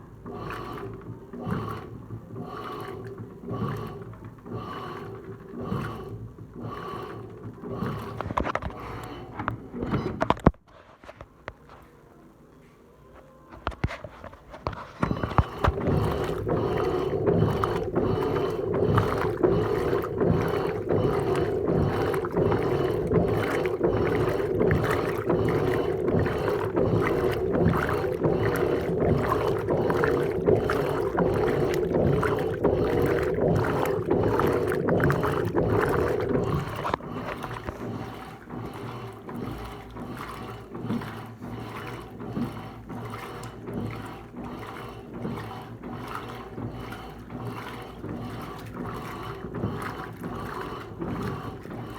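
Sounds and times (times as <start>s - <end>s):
water swishing: 0.0s - 10.7s, 14.1s - 51.9s
washing machine motor hum: 0.0s - 51.9s.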